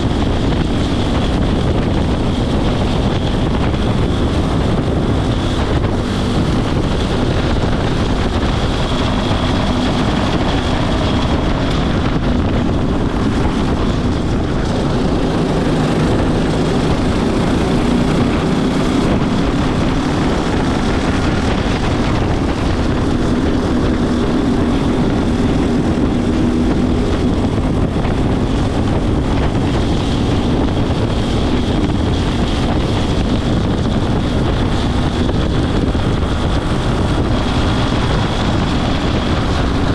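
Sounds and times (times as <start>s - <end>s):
go-kart engine running hard: 0.0s - 39.9s
wind buffeting microphone: 0.0s - 39.9s.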